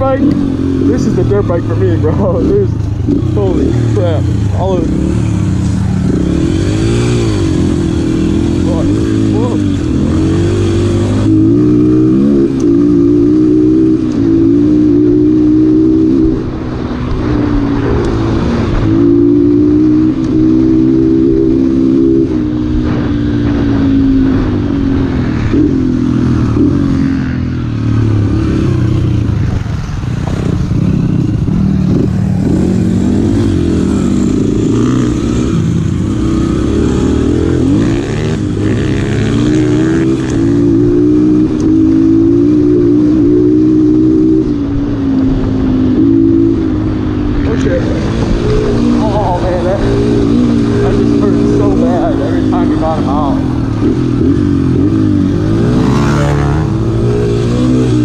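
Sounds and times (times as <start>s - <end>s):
dirt bike engine revving: 0.0s - 58.0s
wind noise: 5.1s - 58.0s.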